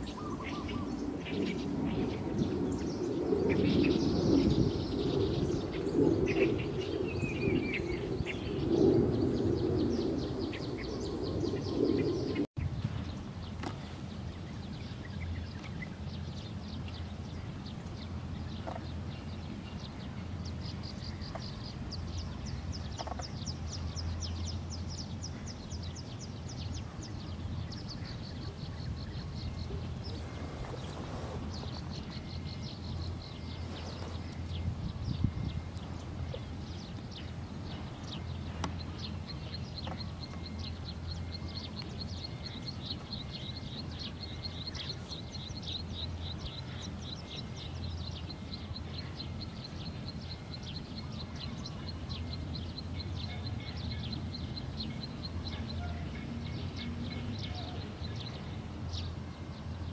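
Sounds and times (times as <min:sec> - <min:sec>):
low steady hum: 0:00.0 - 0:59.9
small birds chirping and trilling: 0:00.0 - 0:59.9.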